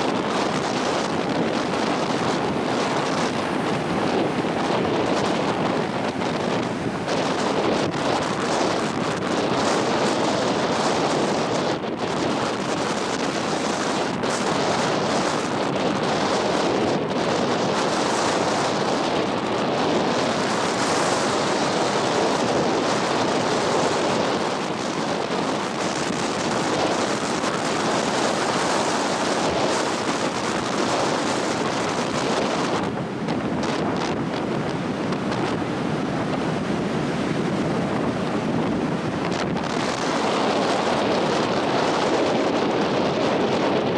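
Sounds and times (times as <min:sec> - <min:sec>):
ocean surf on beach: 0:00.0 - 0:43.9
wind buffeting microphone: 0:00.0 - 0:43.9.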